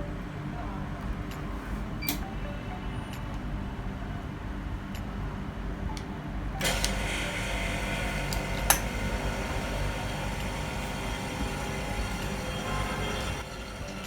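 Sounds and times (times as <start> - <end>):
laminator mechanical hum: 0.0 - 14.0.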